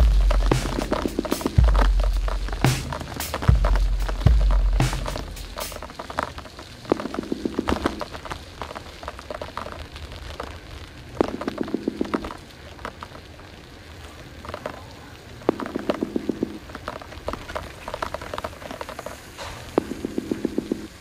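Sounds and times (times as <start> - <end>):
bike rattling on concrete: 0.0 - 21.0
rapid even ticking: 0.0 - 21.0.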